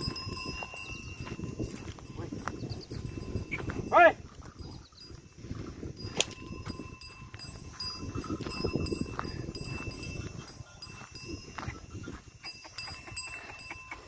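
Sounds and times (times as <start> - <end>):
animal bells jingling: 0.0 - 14.0.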